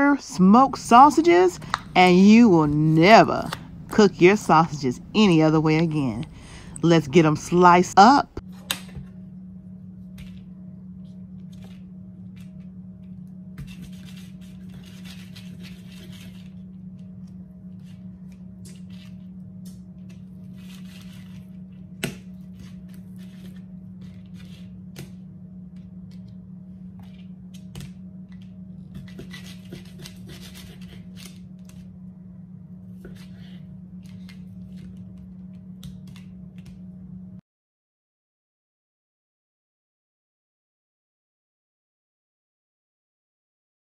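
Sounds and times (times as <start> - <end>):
steady low hum: 0.0 - 37.4.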